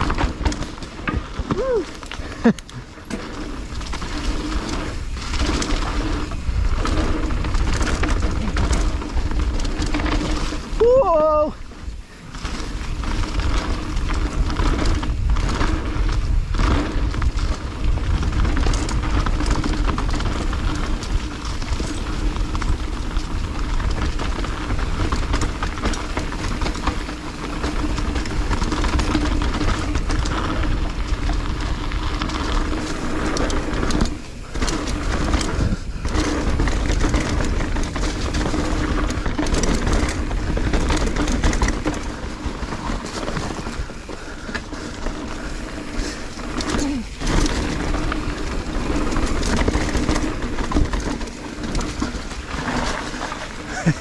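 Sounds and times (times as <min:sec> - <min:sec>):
bike tyres rolling over dirt: 0:00.0 - 0:54.0
wind rushing over microphone: 0:00.0 - 0:54.0.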